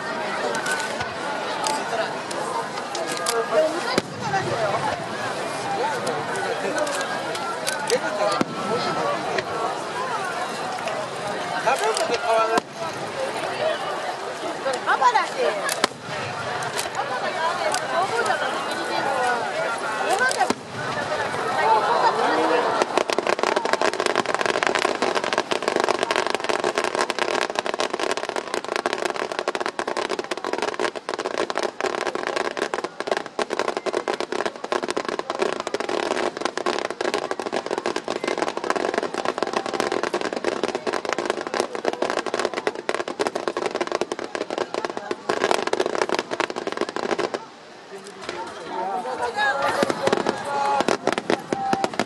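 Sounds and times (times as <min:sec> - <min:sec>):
fireworks bursting: 0:00.0 - 0:52.0.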